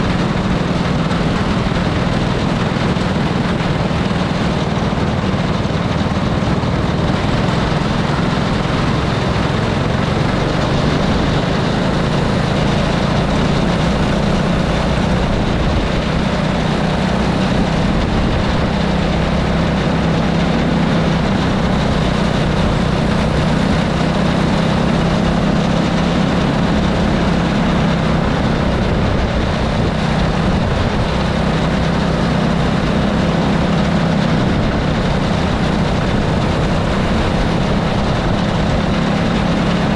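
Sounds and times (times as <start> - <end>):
go-kart engine drone: 0.0 - 39.9
wind and road noise: 0.0 - 39.9.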